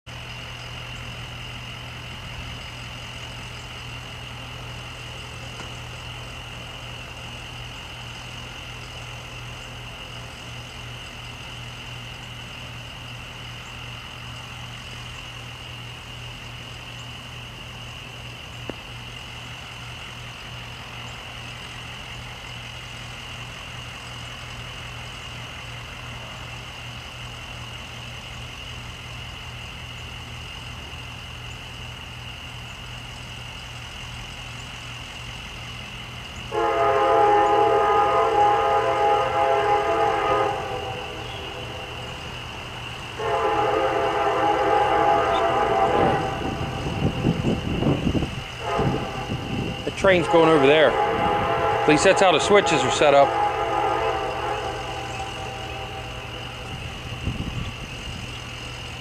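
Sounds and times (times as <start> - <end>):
diesel locomotive idling: 0.1 - 59.0.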